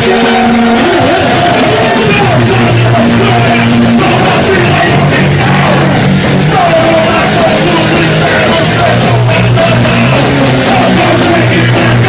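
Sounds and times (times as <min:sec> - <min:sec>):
bass chords: 0:00.0 - 0:12.0
distorted electric guitar: 0:00.0 - 0:12.0
drums: 0:00.0 - 0:12.0.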